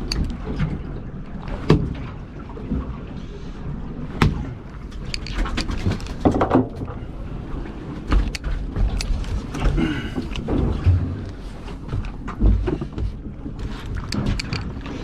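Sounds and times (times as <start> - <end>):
knocks and thuds on boat: 0.0 - 15.0
water: 0.0 - 15.0
wind: 0.0 - 15.0.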